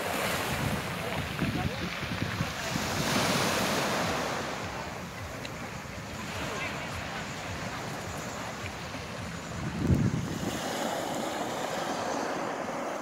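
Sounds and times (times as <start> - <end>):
waves washing over pebbles: 0.0 - 13.0
wind buffeting microphone: 0.0 - 13.0.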